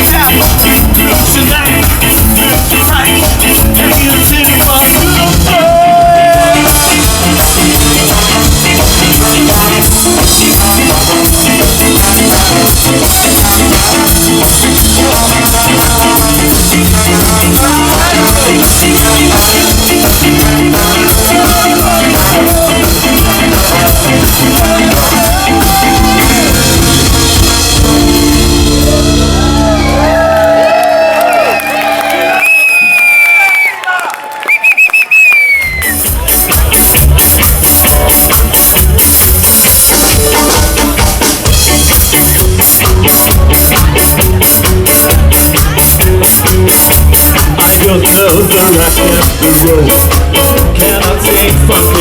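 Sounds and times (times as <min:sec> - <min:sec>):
ska band playing live: 0:00.0 - 0:33.7, 0:34.6 - 0:52.0.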